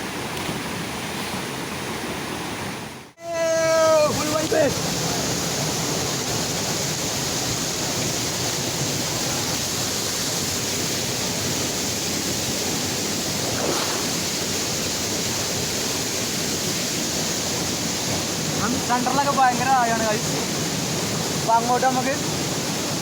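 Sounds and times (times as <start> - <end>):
waterfall rushing over rocks: 0.0 - 23.0.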